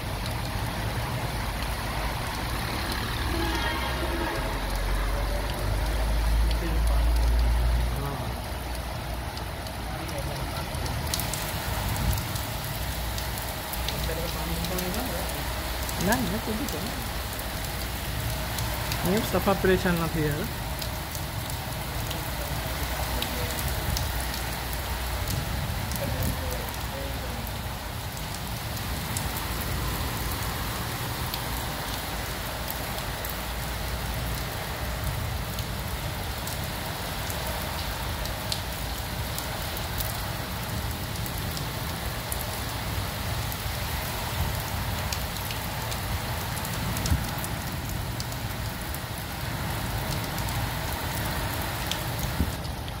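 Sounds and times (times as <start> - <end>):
heavy rain on standing water: 0.0 - 53.0.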